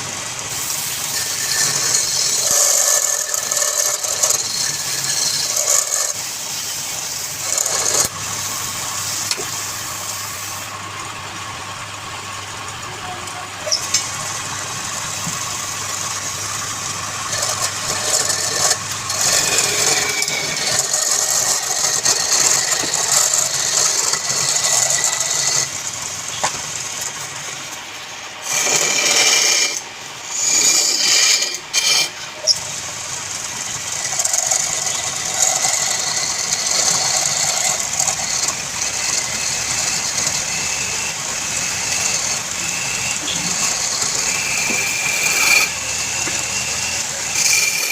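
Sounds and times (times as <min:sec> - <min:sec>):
turning tool cutting spinning wood: 0:00.0 - 0:47.9
wood lathe running: 0:00.0 - 0:47.9.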